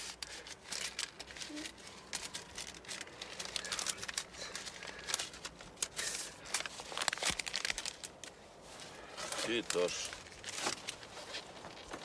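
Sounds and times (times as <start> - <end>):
clothing or paper rustling: 0.0 - 12.0.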